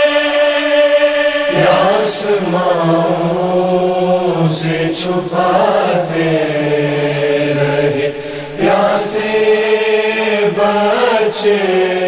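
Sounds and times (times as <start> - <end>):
chorus singing: 0.0 - 12.0
men chanting a lament: 0.0 - 12.0.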